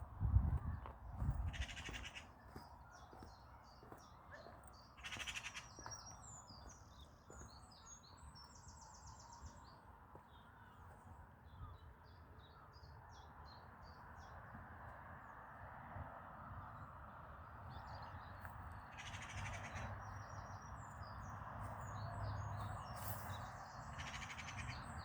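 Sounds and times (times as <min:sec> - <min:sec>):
songbirds chirping and trilling: 0:00.0 - 0:15.8, 0:16.5 - 0:25.0.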